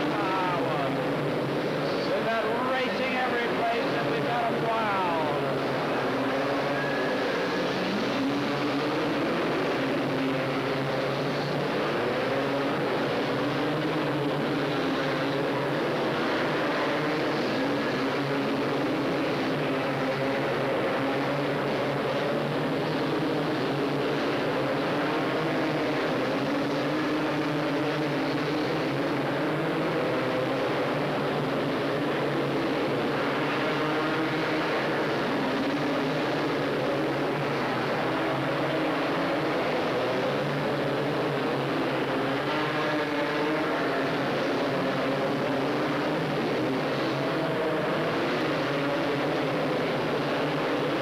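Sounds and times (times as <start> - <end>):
racing quad bike engines: 0.0 - 51.0.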